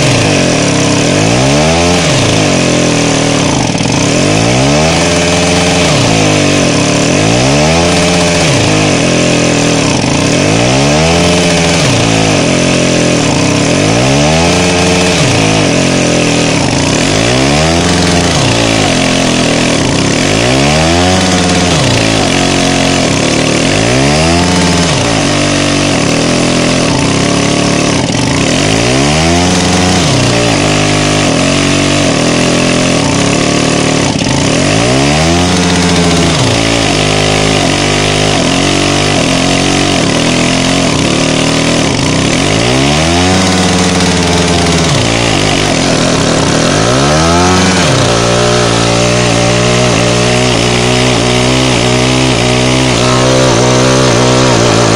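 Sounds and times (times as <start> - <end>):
two-stroke engine running hard: 0.0 - 54.9.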